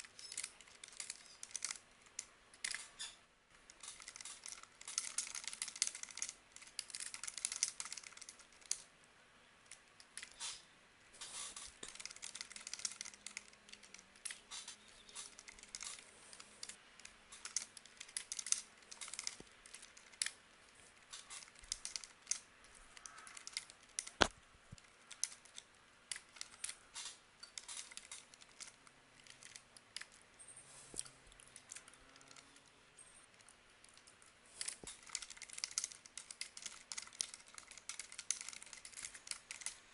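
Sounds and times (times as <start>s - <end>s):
keyboard typing: 0.0s - 8.9s, 11.3s - 30.2s, 31.0s - 39.9s.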